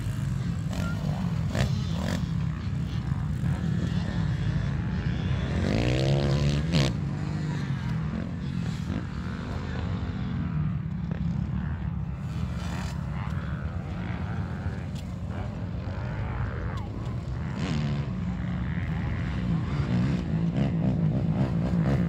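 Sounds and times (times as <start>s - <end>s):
dirt bike engine revving: 0.0s - 22.0s
engine drone: 0.0s - 22.0s.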